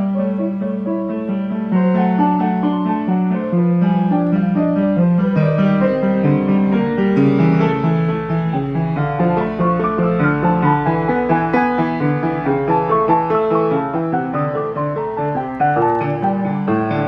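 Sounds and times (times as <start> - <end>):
player piano playing: 0.0 - 17.0.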